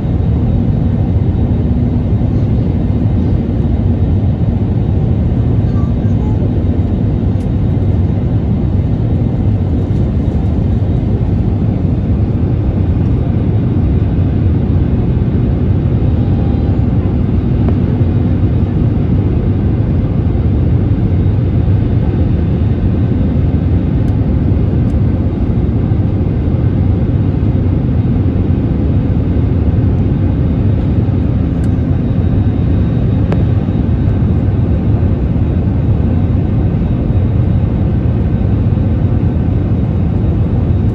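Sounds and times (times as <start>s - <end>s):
airflow noise in aircraft cabin: 0.0s - 40.9s
jet engines humming: 0.0s - 40.9s.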